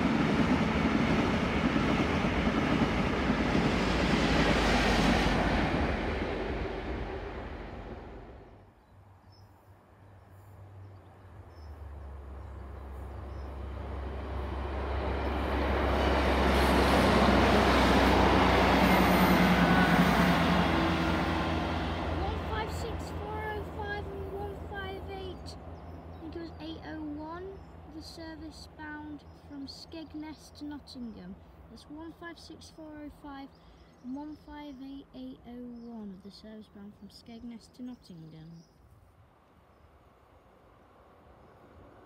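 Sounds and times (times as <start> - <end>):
diesel train engine drone: 0.0 - 38.4
high speed train passing: 0.0 - 38.4, 39.1 - 42.0.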